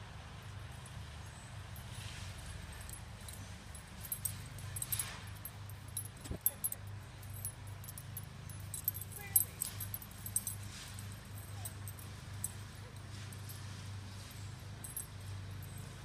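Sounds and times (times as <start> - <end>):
light jingling clicks: 2.5 - 16.0.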